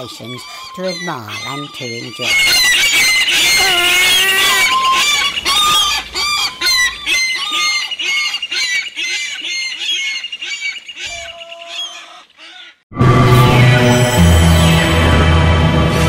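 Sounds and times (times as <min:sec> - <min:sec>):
gulls calling: 0:00.0 - 0:15.2.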